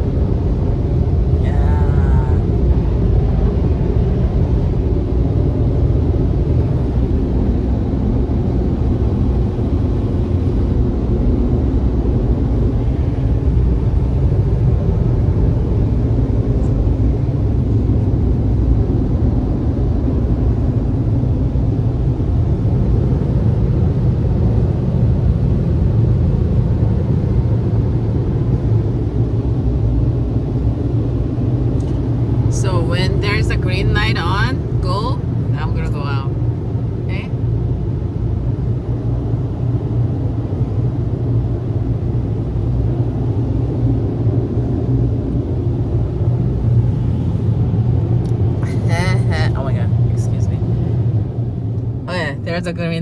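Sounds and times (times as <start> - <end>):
car wash machinery rumbling: 0.0 - 53.0.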